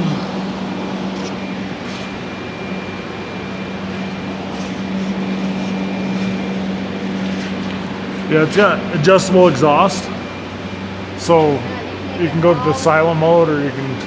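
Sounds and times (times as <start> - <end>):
low machine drone: 0.0 - 14.0.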